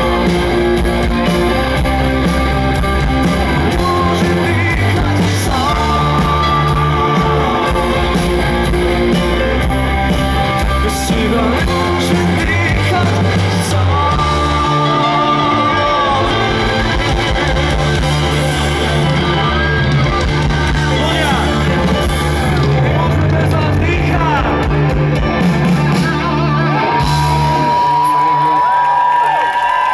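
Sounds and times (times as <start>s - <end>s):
guitar lead with pitch bends: 0.0s - 28.4s
rock band playing loud: 0.0s - 29.9s.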